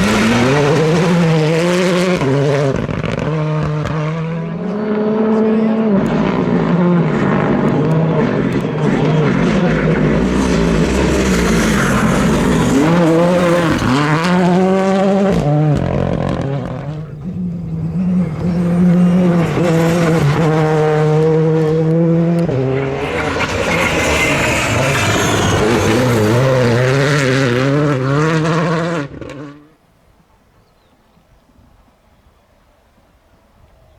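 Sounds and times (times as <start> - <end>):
rally car engine revving: 0.0 - 29.8.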